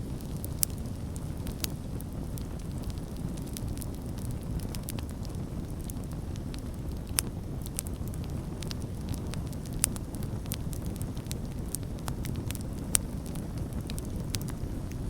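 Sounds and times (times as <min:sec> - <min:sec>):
campfire crackling and popping: 0:00.0 - 0:15.0
fire low rumble: 0:00.0 - 0:15.0.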